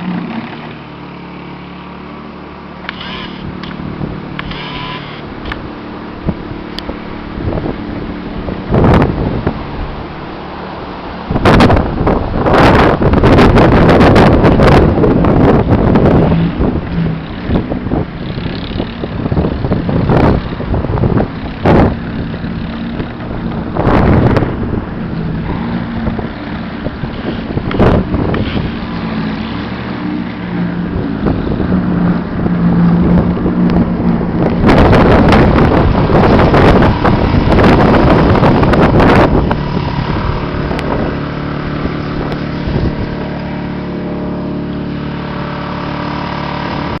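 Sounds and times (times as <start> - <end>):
motor engine running: 0.0 - 47.0
wind buffeting microphone: 3.0 - 47.0.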